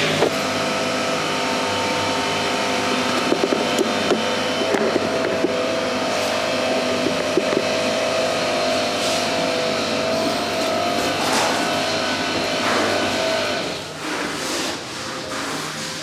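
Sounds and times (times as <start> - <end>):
steady machine drone: 0.0 - 16.0.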